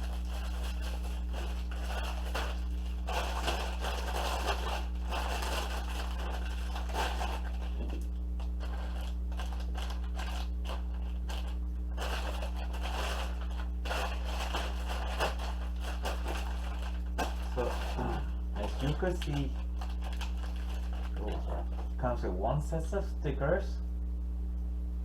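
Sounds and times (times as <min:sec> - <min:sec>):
cardboard and plastic bags rustling: 0:00.0 - 0:22.0
low electrical hum: 0:00.0 - 0:25.0.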